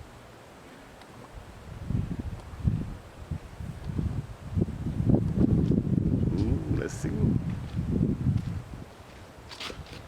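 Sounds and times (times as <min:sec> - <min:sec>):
wind buffeting microphone: 0:01.3 - 0:10.0.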